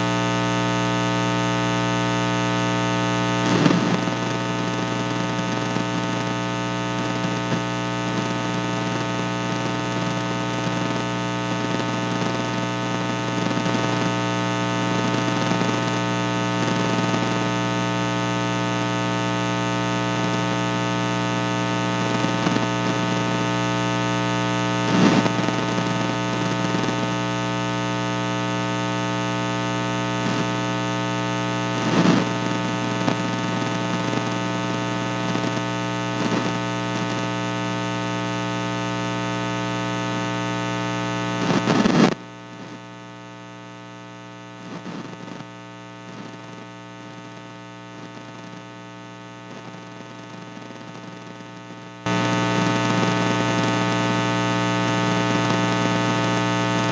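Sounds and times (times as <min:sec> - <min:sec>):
electrical mains hum and buzz: 0:00.0 - 0:56.9.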